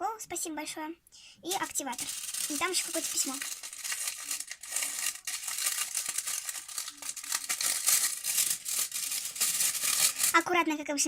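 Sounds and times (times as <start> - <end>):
envelope being torn open: 1.5 - 10.4.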